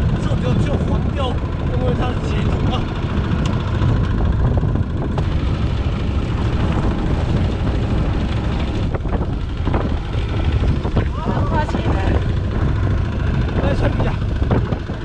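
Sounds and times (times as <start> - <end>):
boat engine droning: 0.0 - 15.0
wind on microphone: 0.0 - 15.0.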